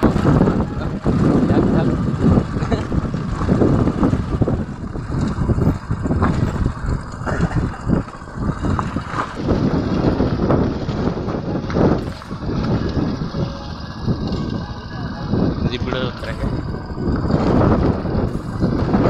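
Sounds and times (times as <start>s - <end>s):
bikes knocking and rattling: 0.0s - 19.0s
motorcycle engines running: 0.0s - 19.0s
wind buffeting microphone: 0.0s - 19.0s.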